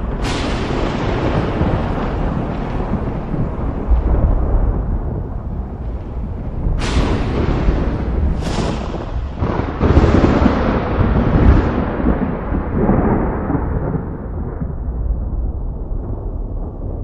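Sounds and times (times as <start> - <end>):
rolling thunder rumble: 0.0 - 17.0
thunder cracks: 0.0 - 17.0.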